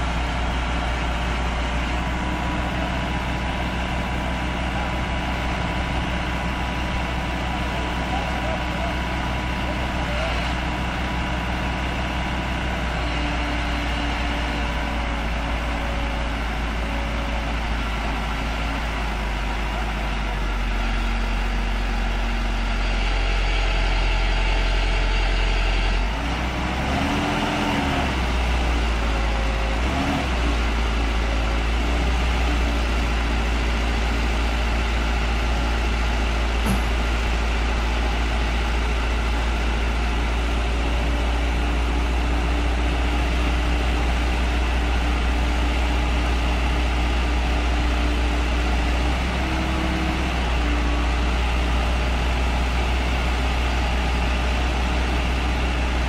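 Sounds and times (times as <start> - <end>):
diesel engine humming and revving: 0.0 - 56.0.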